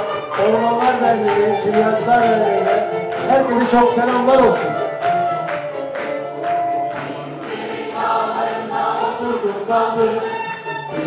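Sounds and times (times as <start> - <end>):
choir and ensemble playing march: 0.0 - 11.0.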